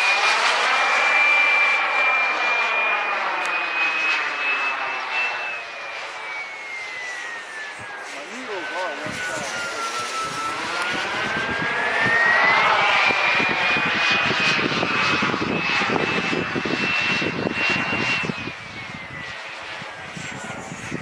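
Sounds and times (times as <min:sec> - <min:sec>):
jet turbine engine whine: 0:00.0 - 0:21.0.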